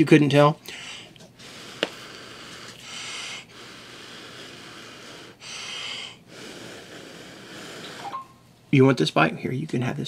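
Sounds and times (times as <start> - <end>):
steady low hiss: 0.0 - 10.0.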